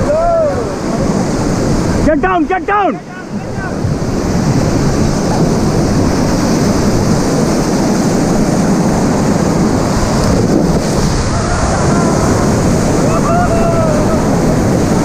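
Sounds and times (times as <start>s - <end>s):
whitewater rushing and splashing: 0.0s - 15.0s.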